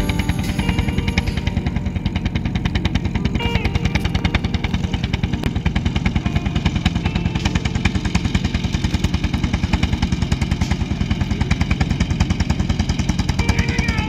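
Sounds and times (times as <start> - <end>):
tractor engines running: 0.0 - 14.0.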